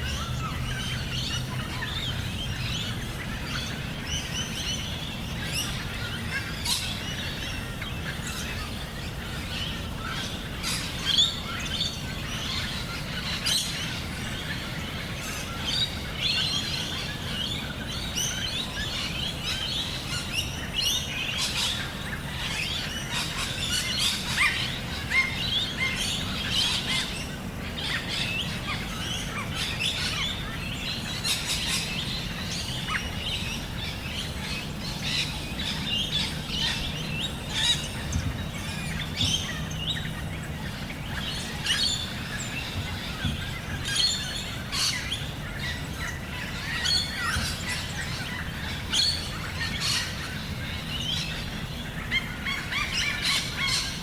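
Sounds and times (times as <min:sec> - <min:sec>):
low background noise: 0:00.0 - 0:54.0
many birds chirping: 0:00.0 - 0:54.0.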